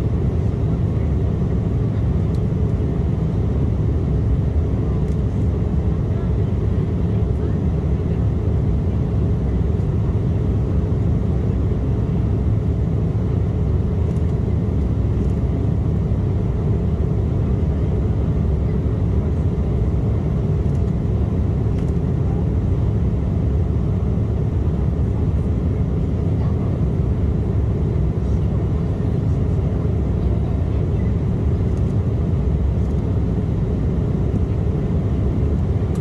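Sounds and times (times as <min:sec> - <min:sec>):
jet airliner cabin rumble: 0:00.0 - 0:36.0.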